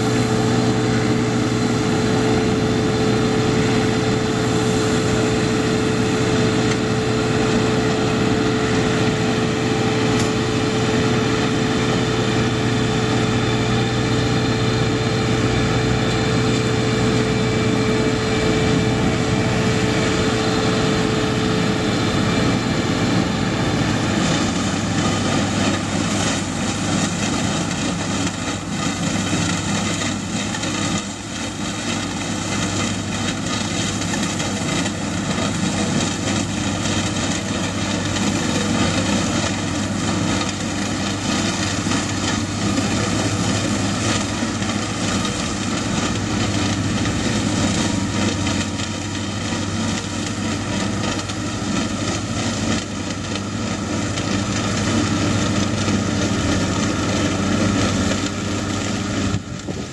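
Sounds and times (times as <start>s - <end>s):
diesel tractor engines droning: 0.0s - 59.9s.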